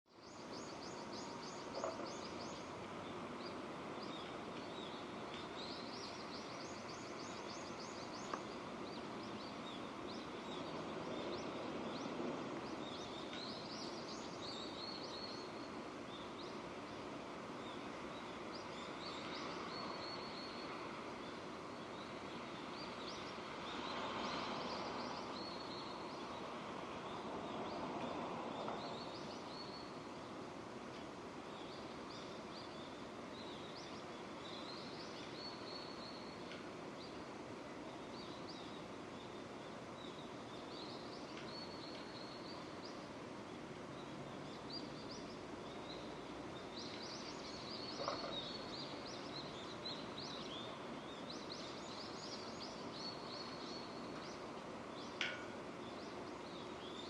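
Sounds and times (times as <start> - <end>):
small birds chirping: 0.1 - 57.0
steady rain falling: 0.2 - 57.0.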